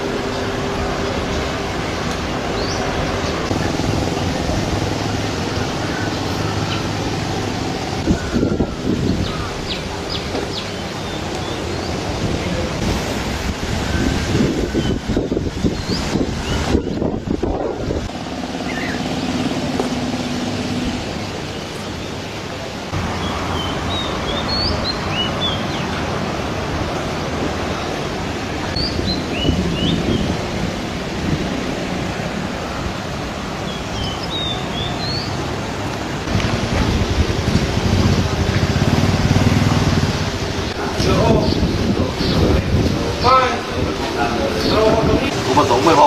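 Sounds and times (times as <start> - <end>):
low engine hum: 0.0 - 46.0
steady wind: 0.0 - 46.0.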